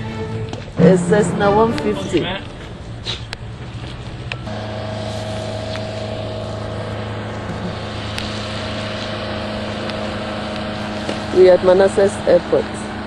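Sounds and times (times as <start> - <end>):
motor drone with whine: 0.5 - 13.0.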